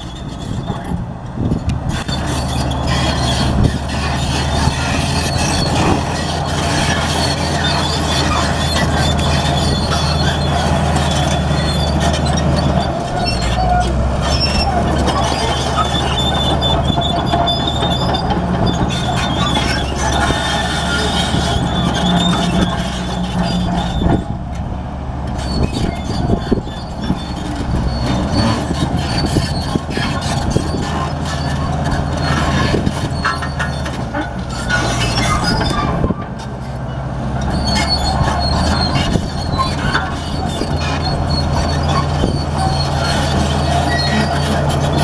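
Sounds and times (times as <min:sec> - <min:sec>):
diesel engine drone: 0:00.0 - 0:45.0.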